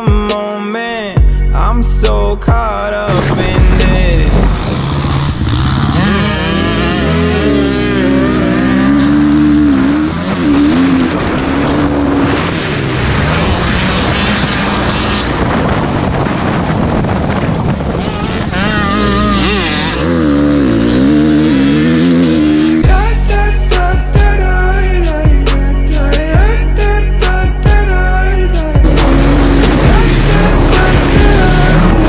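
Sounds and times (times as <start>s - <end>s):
dirt bike engines revving: 1.6s - 32.0s.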